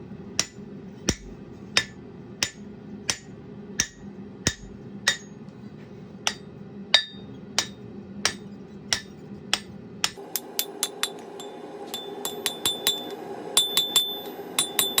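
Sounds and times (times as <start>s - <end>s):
hammer striking steel on anvil: 0.4s - 5.4s, 6.2s - 15.0s.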